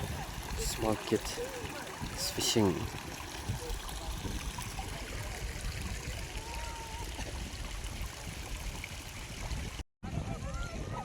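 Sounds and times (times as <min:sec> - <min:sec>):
stream water trickling: 0:00.0 - 0:10.9.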